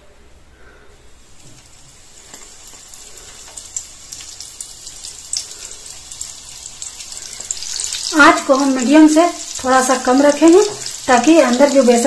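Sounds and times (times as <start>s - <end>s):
cutlets sizzling in hot oil: 1.3s - 12.0s.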